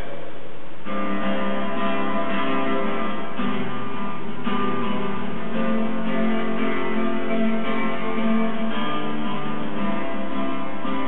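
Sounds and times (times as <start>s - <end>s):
guitar strumming chords: 0.8s - 11.0s.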